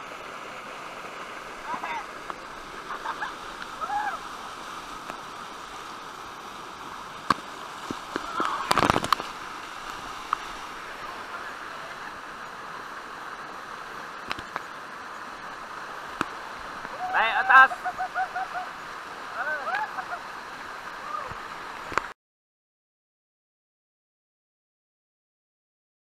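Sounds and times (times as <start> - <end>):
waterfall rushing: 0.0 - 22.1.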